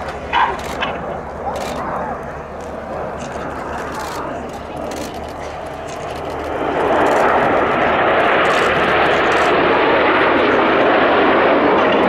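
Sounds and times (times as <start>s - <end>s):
jets flying by: 0.0s - 12.0s.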